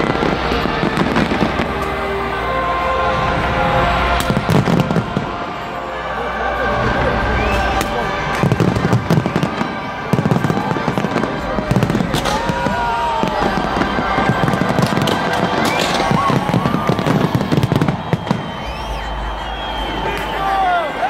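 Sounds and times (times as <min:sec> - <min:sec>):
fireworks cracking and banging: 0:00.0 - 0:02.4, 0:03.2 - 0:05.6, 0:06.8 - 0:21.0.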